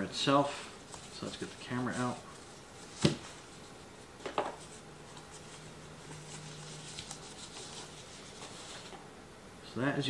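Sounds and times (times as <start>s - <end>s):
packaging rustling: 0.8s - 9.0s.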